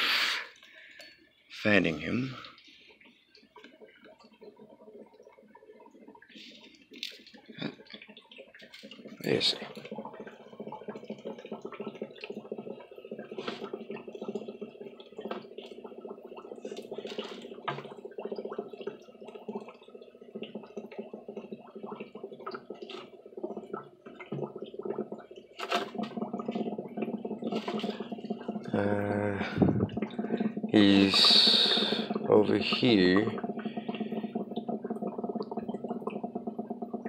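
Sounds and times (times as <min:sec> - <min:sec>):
water sloshing and dripping: 0:00.5 - 0:37.0.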